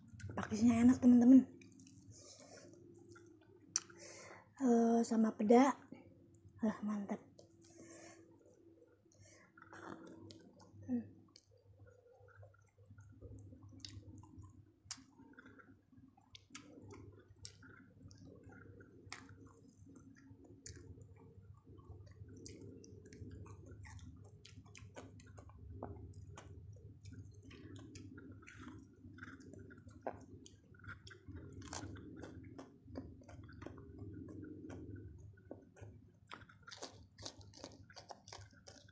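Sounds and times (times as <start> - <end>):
person chewing food: 0.0 - 0.5, 1.6 - 4.1, 7.4 - 38.9.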